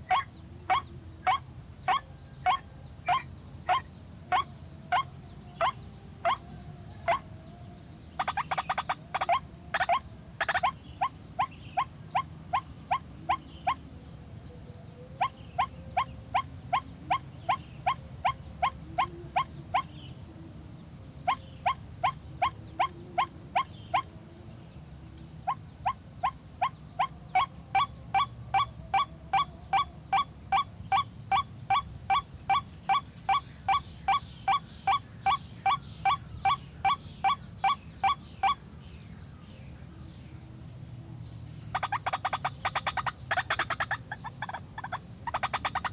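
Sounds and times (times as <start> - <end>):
waterhen calling: 0.0 - 14.1, 15.0 - 20.3, 20.9 - 24.4, 25.2 - 38.8, 41.6 - 45.9.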